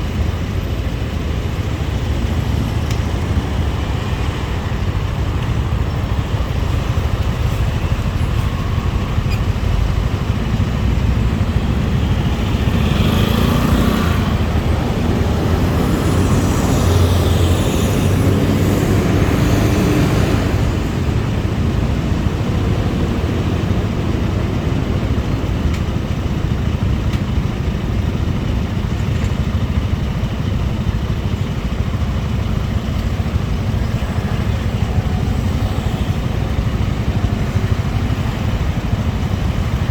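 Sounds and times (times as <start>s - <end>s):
motorbike engine and road noise: 0.0s - 39.9s.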